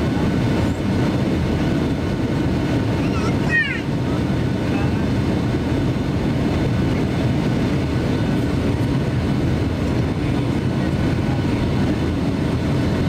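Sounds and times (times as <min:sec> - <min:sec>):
air rushing over airframe: 0:00.0 - 0:13.0
airplane cabin engine drone: 0:00.0 - 0:13.0.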